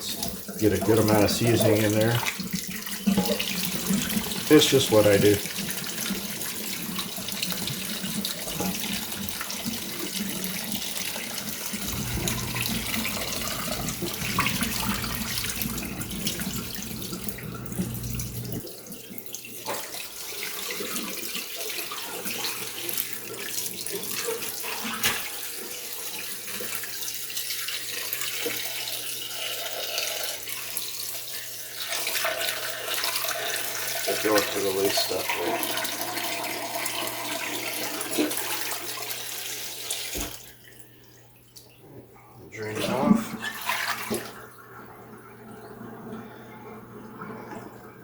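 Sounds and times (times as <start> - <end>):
tap water running and splashing: 0.0 - 41.8, 43.4 - 48.0.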